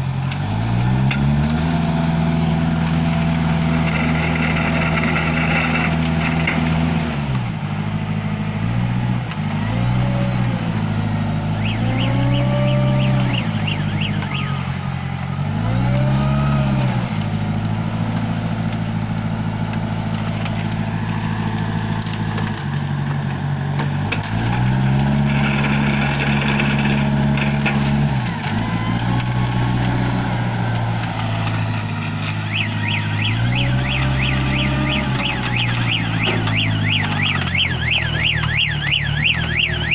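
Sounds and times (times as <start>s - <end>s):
concrete mixer engine revving: 0.0s - 39.9s.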